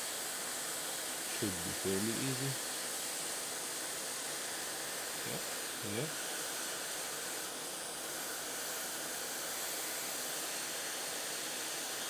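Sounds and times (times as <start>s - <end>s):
hot air blowing hiss: 0.0s - 12.0s.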